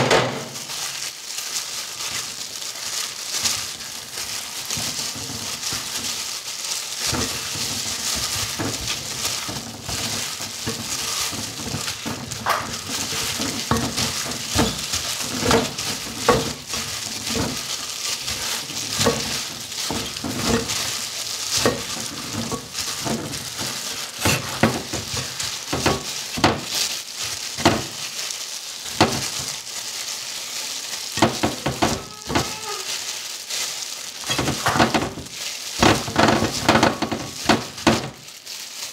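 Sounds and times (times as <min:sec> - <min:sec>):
plastic gloves crinkling: 0:00.0 - 0:38.9.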